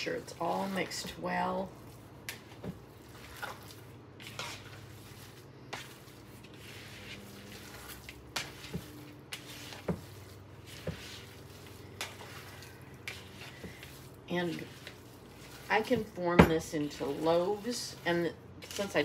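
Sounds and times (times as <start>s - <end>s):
hands squishing meat mixture: 0.0s - 19.0s.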